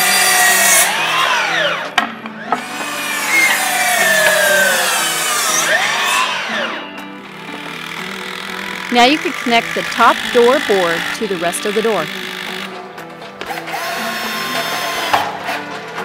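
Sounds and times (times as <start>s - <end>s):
miter saw cutting wood: 0.0s - 16.0s.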